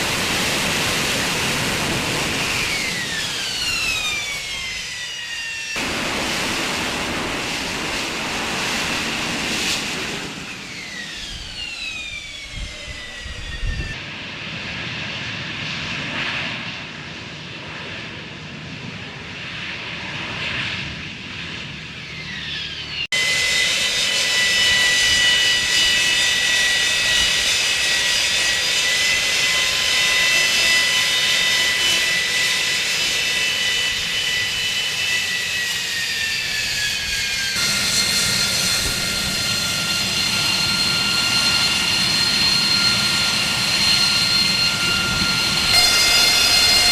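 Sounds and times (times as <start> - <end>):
jet engine roar with turbine whine: 0.0 - 46.9.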